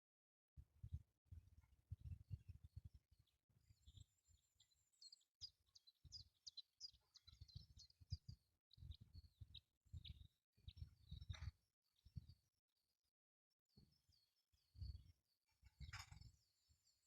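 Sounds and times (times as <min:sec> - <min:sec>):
faint bird chirping: 0:01.6 - 0:12.9, 0:13.7 - 0:17.0.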